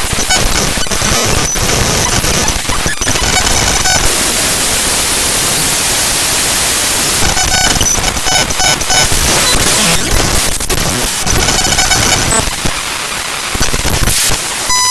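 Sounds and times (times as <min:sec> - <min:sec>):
buzzy repeating tones: 0:00.0 - 0:14.9
harsh static hiss: 0:00.0 - 0:14.9.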